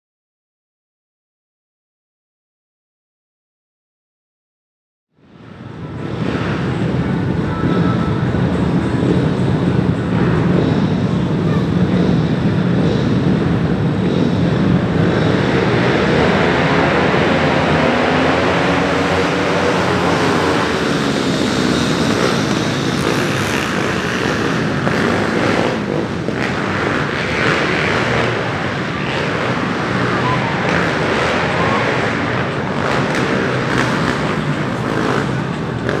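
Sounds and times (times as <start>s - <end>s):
dirt bike engines revving: 5.5s - 36.0s.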